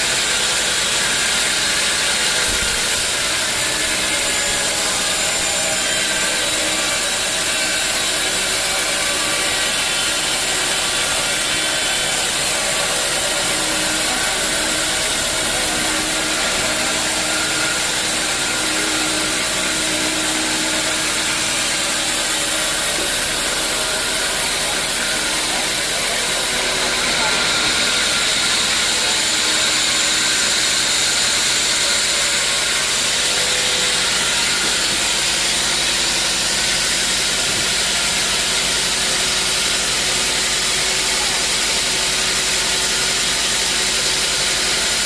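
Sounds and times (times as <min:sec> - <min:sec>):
sawmill saw cutting log: 0:00.0 - 0:45.0.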